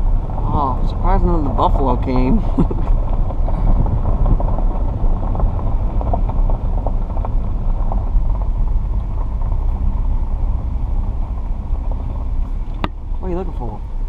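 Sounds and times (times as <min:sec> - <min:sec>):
car rumble from inside cabin: 0:00.0 - 0:14.0
faint ticks and crackles: 0:00.8 - 0:13.9.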